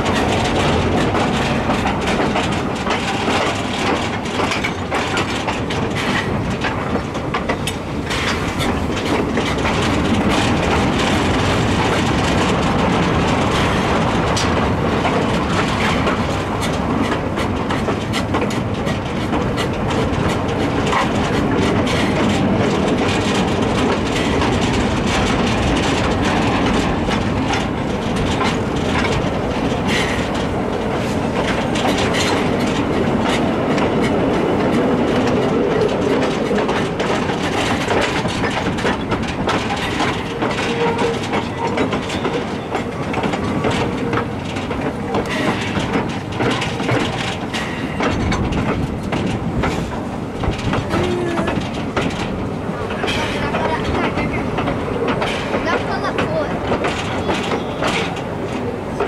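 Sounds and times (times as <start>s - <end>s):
steam locomotive running: 0.0s - 59.0s
wheels clattering over rails: 0.0s - 59.0s.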